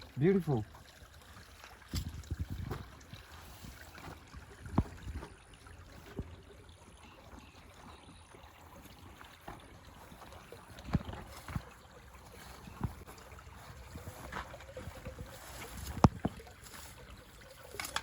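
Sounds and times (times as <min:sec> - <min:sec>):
river water running: 0:00.0 - 0:18.0.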